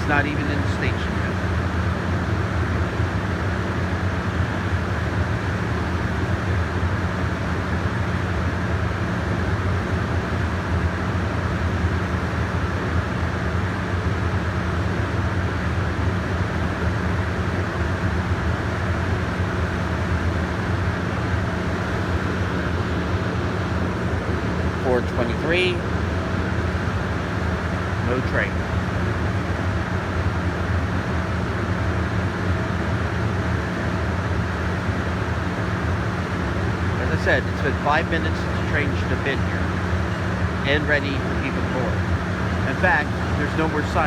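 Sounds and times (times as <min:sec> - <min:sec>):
idling railway equipment hum: 0:00.0 - 0:44.0.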